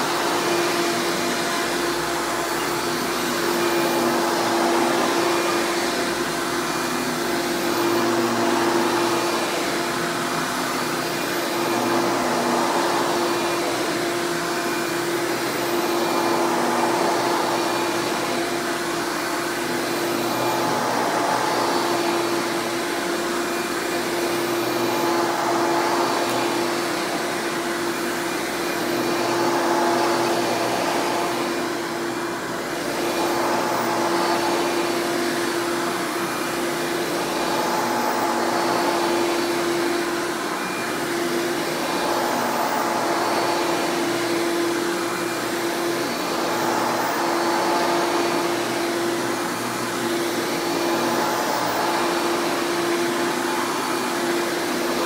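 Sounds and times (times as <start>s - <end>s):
vacuum cleaner on carpet: 0.0s - 55.0s.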